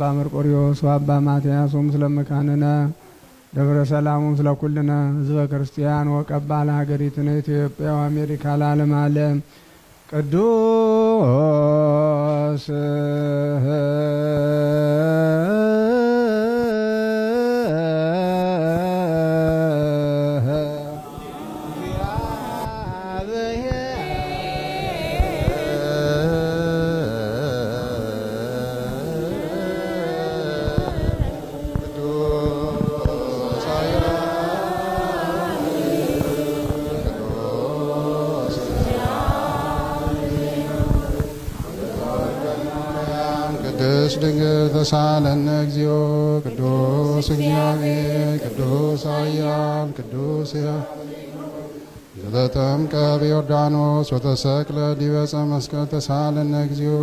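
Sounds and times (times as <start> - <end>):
man chanting: 0.0 - 9.5, 10.1 - 57.0.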